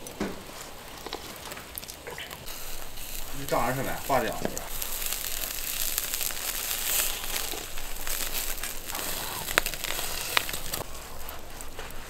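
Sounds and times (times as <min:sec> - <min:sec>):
grill crackling and sizzling: 0:00.0 - 0:12.0
sharp pops: 0:00.0 - 0:12.0.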